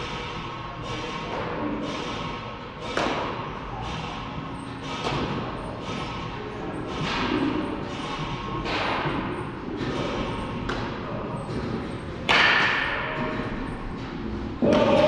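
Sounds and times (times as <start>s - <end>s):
sharp baseball impacts echoing: 0.0s - 15.0s.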